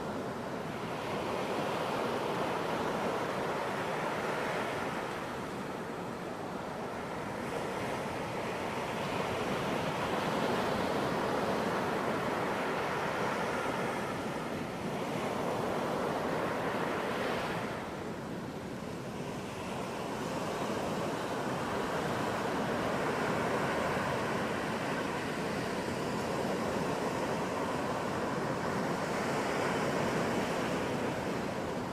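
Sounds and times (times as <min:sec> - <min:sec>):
waves breaking on a beach: 0:00.0 - 0:31.9.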